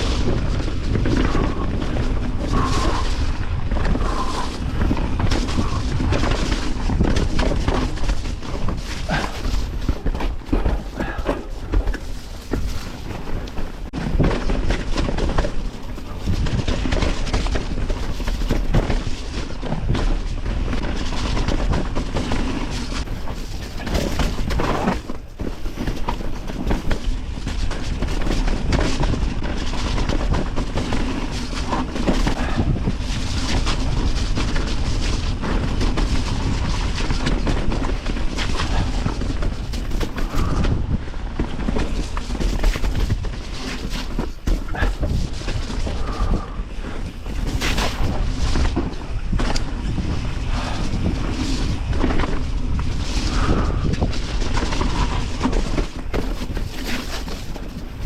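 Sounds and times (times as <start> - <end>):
bike clattering: 0.0 - 58.0
bike tyres rolling over rocks: 0.0 - 58.0
wind noise on microphone: 0.0 - 58.0.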